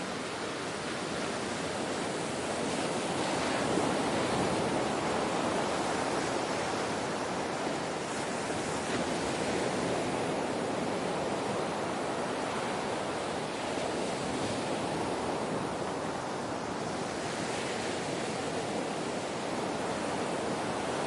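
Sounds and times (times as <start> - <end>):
ocean waves washing on shore: 0.0 - 21.0.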